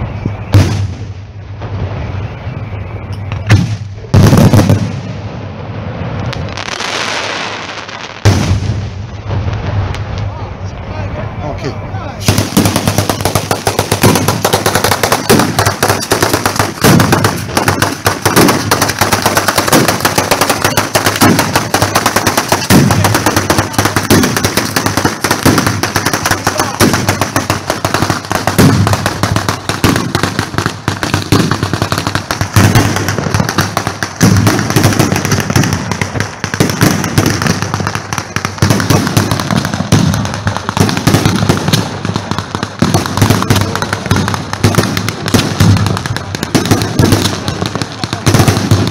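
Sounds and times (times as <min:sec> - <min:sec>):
fireworks bangs and crackling: 0:00.0 - 0:48.9
heavy fireworks booms: 0:00.0 - 0:48.9.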